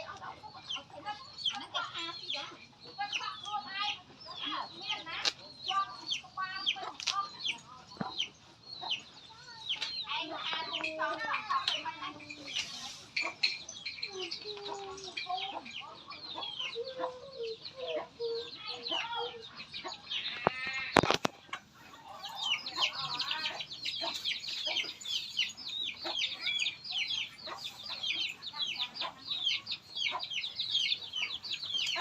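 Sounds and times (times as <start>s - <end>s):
chickens clucking and peeping: 0.0s - 32.0s.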